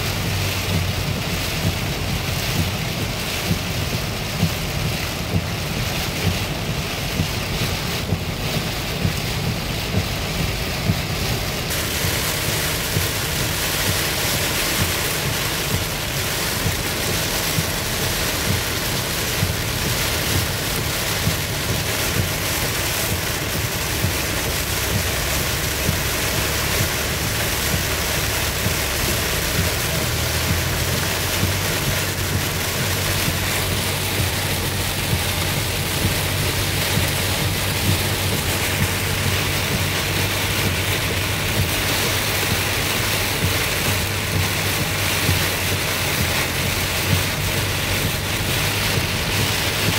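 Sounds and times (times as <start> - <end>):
engine and tyres rumbling: 0.0 - 49.9
heavy rain drumming on car: 0.0 - 49.9.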